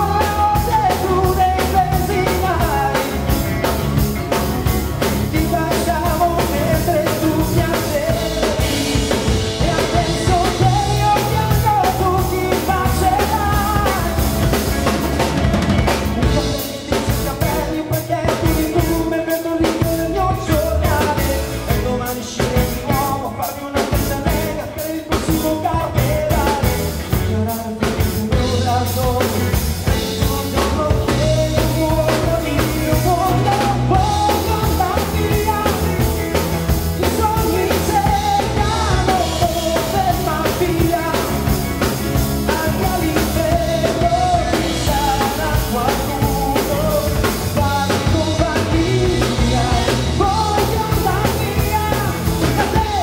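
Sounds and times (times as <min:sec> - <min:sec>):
lead vocal singing: 0:00.0 - 0:53.0
live rock band playing: 0:00.0 - 0:53.0.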